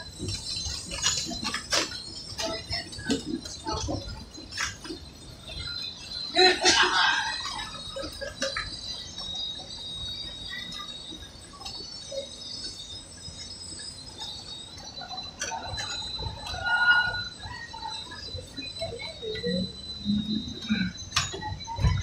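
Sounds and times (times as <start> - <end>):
train high-pitched whine: 0.0 - 22.0.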